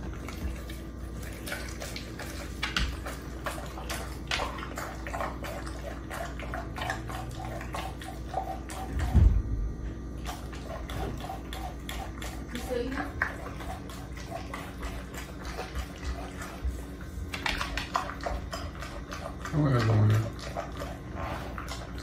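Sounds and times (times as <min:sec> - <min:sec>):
dog chewing meat: 0:00.0 - 0:22.0.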